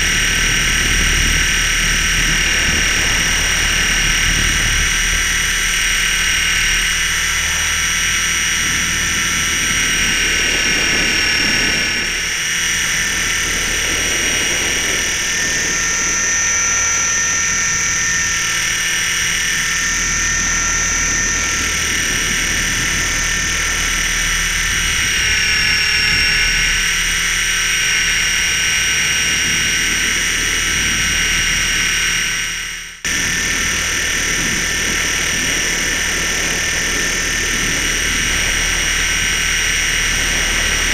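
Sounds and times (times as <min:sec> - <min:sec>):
electric motor and gears whining: 0:00.0 - 0:40.9
low hum: 0:00.0 - 0:40.9.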